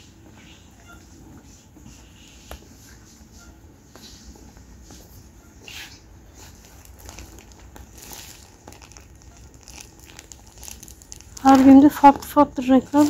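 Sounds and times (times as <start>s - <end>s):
low steady hum: 0.0s - 13.0s
rustling and crinkling: 0.0s - 13.0s.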